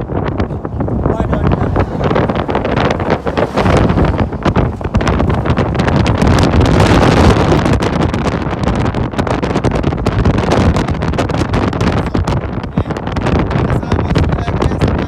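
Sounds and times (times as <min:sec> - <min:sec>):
strong low rumble: 0:00.0 - 0:15.0
wind buffeting microphone: 0:00.0 - 0:15.0.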